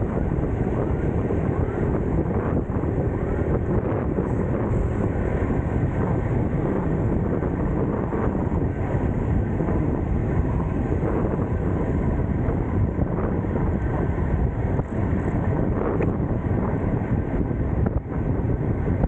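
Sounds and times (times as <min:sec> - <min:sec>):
low rumble of traffic: 0:00.0 - 0:19.0
wind noise on microphone: 0:00.0 - 0:19.0.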